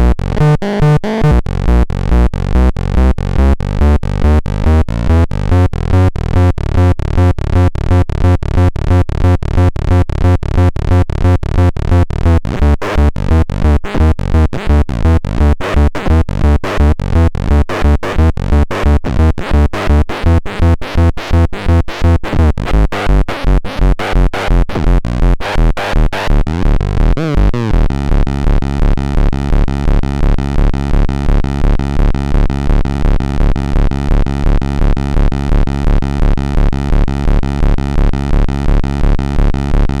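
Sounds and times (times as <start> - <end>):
pulsing electronic synthesizer loop: 0.0 - 40.0.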